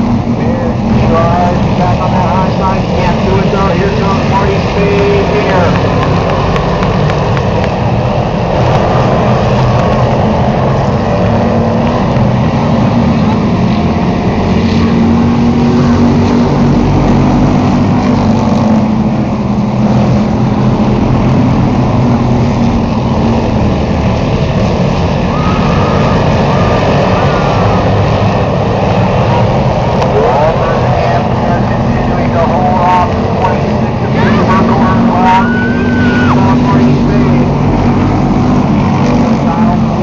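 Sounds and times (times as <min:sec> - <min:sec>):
stock car engines racing: 0:00.0 - 0:40.0.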